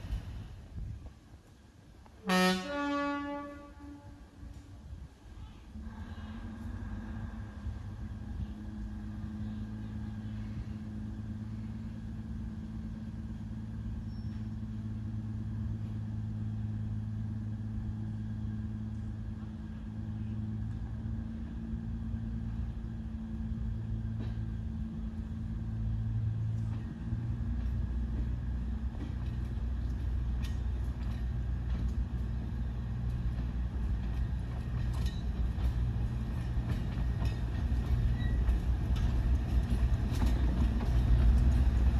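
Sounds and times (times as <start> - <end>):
diesel locomotive engine humming: 0.0 - 41.9.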